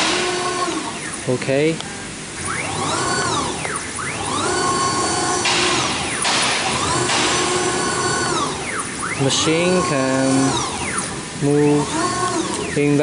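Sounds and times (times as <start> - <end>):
router drive motors whining: 0.0 - 1.4, 2.3 - 13.0.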